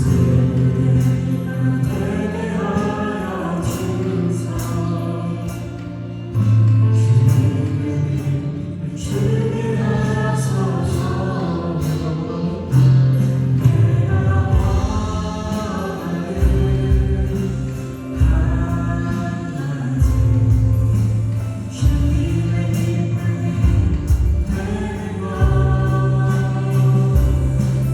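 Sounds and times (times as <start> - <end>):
acoustic guitar: 0.0 - 27.9
bass line: 0.0 - 27.9
drums: 0.0 - 27.9
keyboard: 0.0 - 27.9
voices singing together: 0.0 - 27.9.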